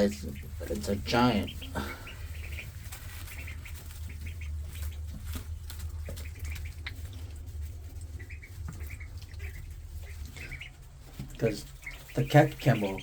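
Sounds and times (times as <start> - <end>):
ducklings peeping: 0.0 - 13.0
steady low hum: 0.0 - 13.0.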